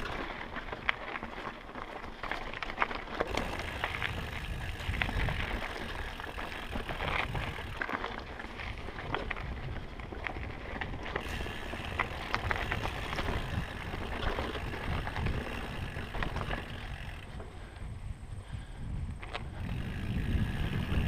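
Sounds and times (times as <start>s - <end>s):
bike chain and frame rattling: 0.0s - 21.0s
bike tyres rumbling on dirt: 0.0s - 21.0s.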